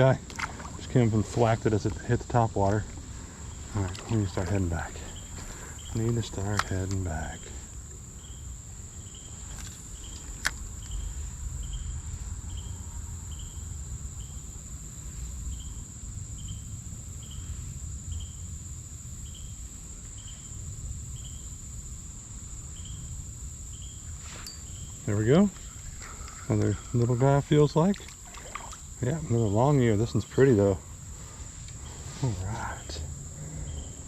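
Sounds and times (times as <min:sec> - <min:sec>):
insects buzzing and chirping: 0:00.0 - 0:34.0.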